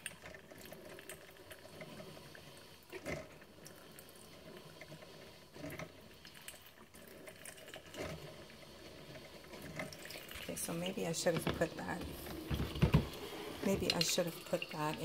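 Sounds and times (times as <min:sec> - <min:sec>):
coffee maker water trickling: 0:00.0 - 0:15.0.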